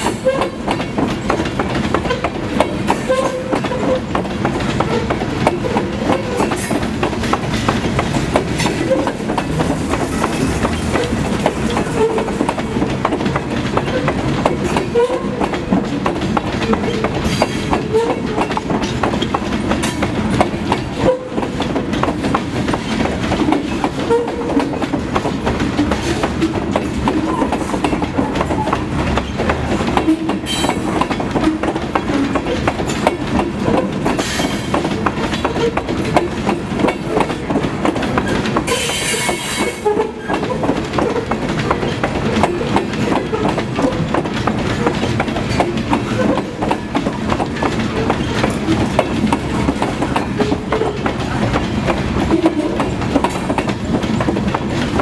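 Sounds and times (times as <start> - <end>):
freight train rumbling: 0.0 - 55.0
wheels clacking over rail joints: 0.0 - 55.0.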